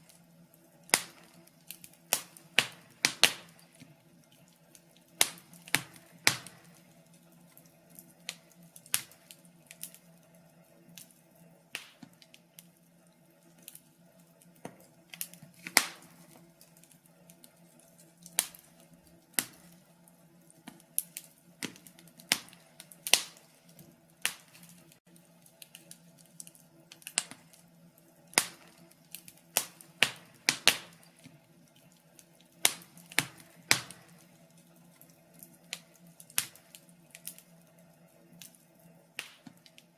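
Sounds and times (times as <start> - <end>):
faint steady low hum: 0.0 - 39.9
wood fire crackling and popping: 0.0 - 39.9.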